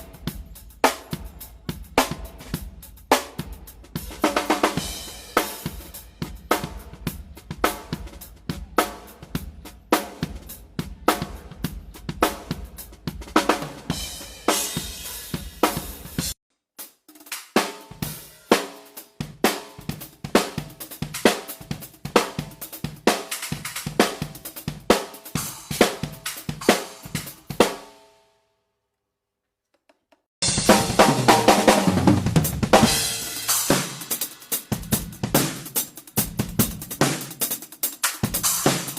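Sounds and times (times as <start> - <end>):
drum kit playing fills: 0.0 - 28.1, 30.4 - 38.9.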